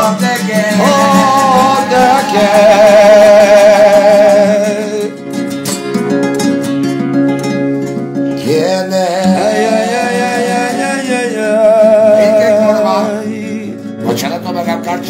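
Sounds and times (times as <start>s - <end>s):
man singing: 0.0s - 5.5s, 8.3s - 15.0s
guitar accompaniment: 0.0s - 15.0s.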